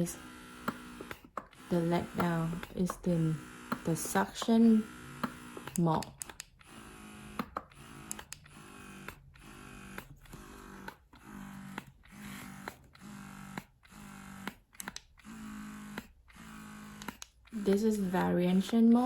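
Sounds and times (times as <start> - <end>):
breast pump motor humming: 0.0 - 19.0
pump clicks: 0.6 - 19.0.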